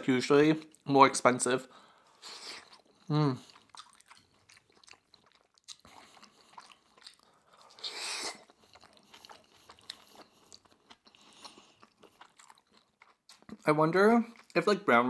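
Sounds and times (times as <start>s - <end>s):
close chewing with mouth clicks: 2.0s - 14.7s.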